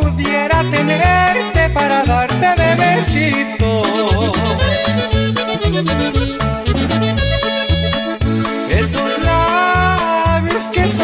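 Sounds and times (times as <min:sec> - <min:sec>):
bass and drum beat: 0:00.0 - 0:11.0
instrumental norteno music: 0:00.0 - 0:11.0.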